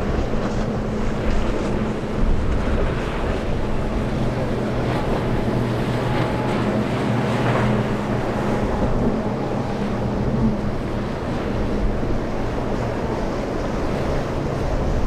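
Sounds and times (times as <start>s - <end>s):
boat engines droning: 0.0s - 15.0s
wind buffeting microphone: 0.0s - 15.0s.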